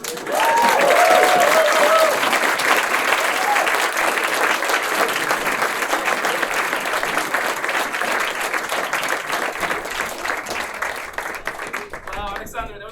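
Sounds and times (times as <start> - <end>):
audience cheering: 0.0 - 12.4
audience applauding: 0.0 - 12.6.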